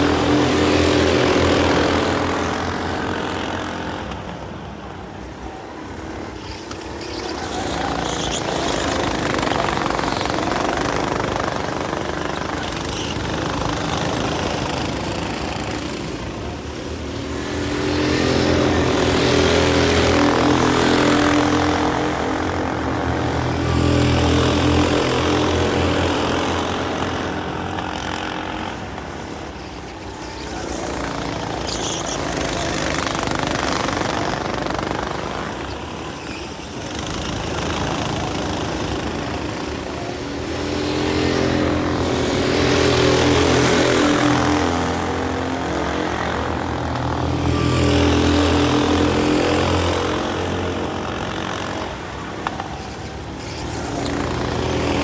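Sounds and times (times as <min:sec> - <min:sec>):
go-kart engines racing: 0:00.0 - 0:55.0.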